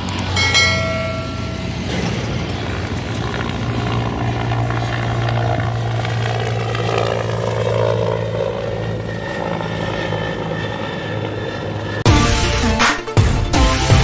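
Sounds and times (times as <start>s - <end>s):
helicopter rotor and turbines: 0.0s - 14.0s.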